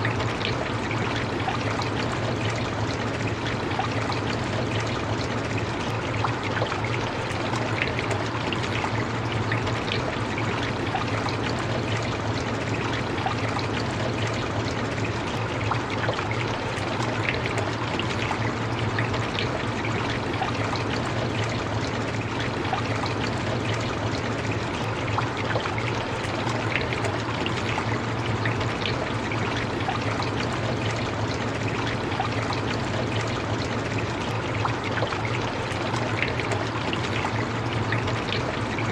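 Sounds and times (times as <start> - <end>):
constant low hum: 0.0 - 38.9.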